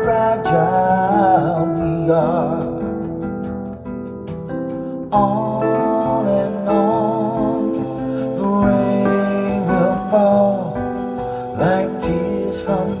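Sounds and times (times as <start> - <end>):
acoustic guitar ballad through speakers: 0.0 - 13.0.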